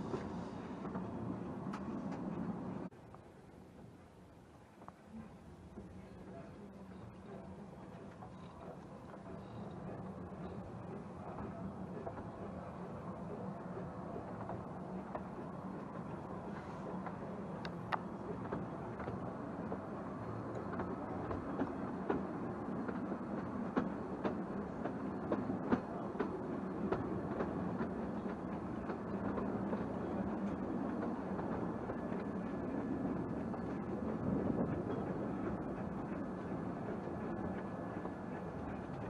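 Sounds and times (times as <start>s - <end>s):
train clicks and clanks: 0.0s - 2.9s, 4.7s - 39.0s
train wheels rumbling on rail: 0.0s - 2.9s, 7.8s - 39.0s.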